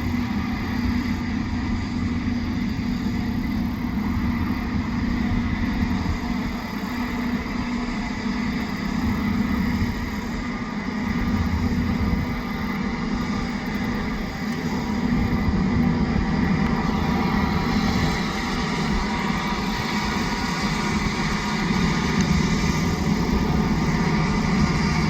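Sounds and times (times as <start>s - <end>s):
combine harvester engine and threshing: 0.0s - 25.0s.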